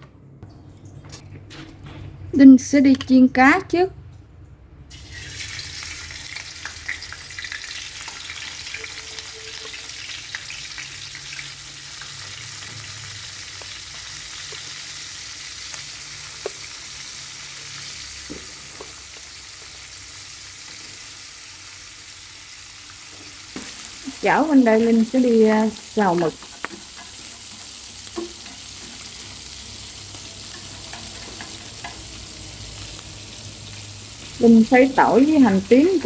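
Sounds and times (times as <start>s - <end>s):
fish sizzling in hot oil: 4.9s - 36.0s.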